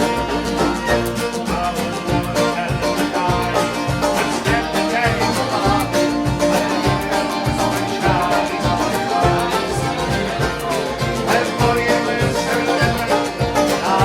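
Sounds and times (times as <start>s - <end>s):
plucked string instruments: 0.0s - 14.0s
steady low beat: 0.0s - 14.0s.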